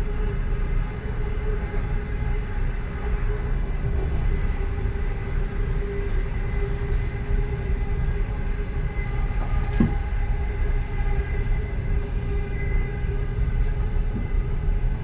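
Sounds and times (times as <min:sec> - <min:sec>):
constant hum: 0:00.0 - 0:15.0
train rumbling on rails: 0:00.0 - 0:15.0.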